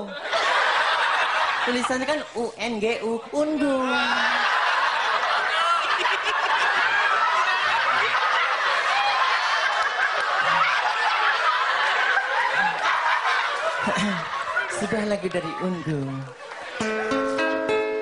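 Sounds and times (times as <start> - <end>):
audience laughing: 0.0 - 2.6, 3.6 - 17.7.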